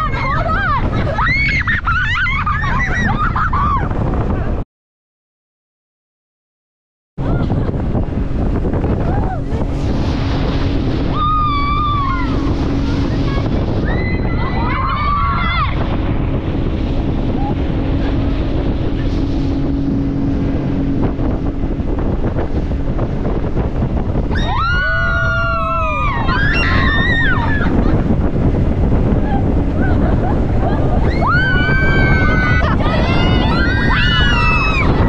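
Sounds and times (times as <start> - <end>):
boat engine rumble: 0.0 - 4.6, 7.2 - 35.0
wind buffeting microphone: 0.0 - 4.6, 7.2 - 35.0.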